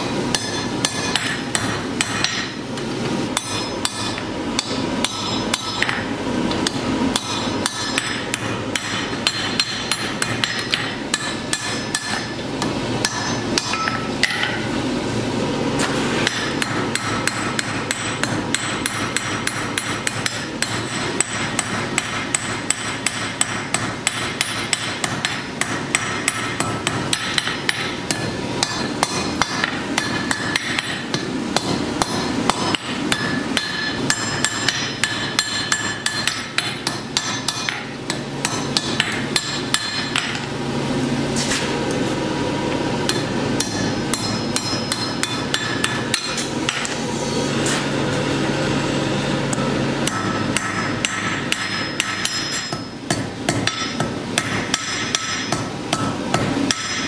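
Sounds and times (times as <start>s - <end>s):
hammer striking steel on anvil: 0.0s - 2.6s, 3.3s - 14.7s, 15.8s - 40.5s, 43.0s - 47.0s, 49.5s - 57.0s.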